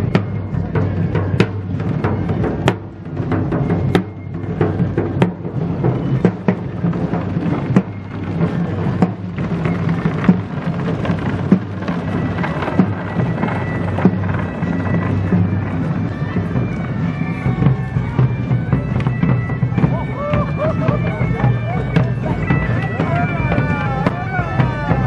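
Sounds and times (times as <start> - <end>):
marching drums beating: 0.0 - 25.0.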